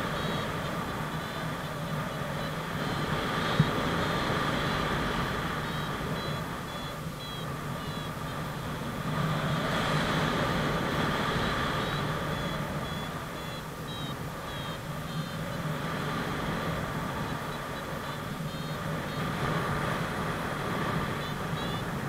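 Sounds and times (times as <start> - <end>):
short high variometer beeps: 0.0 - 8.8, 9.4 - 22.0
wind rushing over microphone: 0.0 - 22.0.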